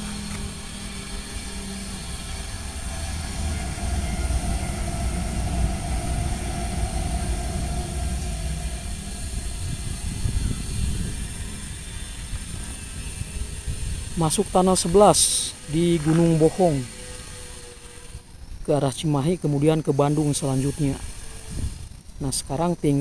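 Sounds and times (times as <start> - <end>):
high-speed train passing: 0.0 - 18.6, 19.2 - 22.1.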